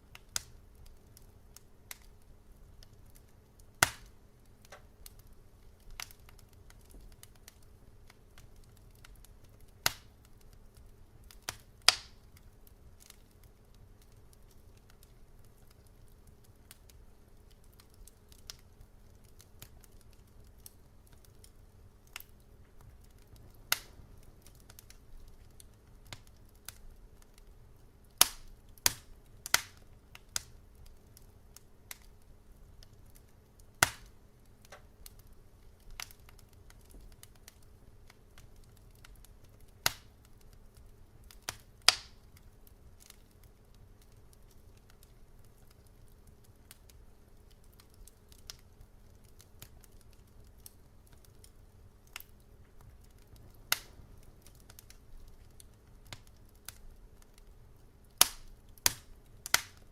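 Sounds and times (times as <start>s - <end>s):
faint low rumble: 0.0s - 59.9s
wood fire crackling: 0.0s - 59.9s.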